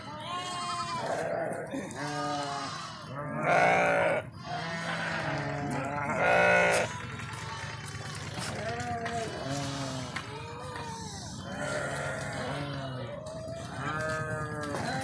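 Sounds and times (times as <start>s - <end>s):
sheep bleating: 0.0s - 15.0s.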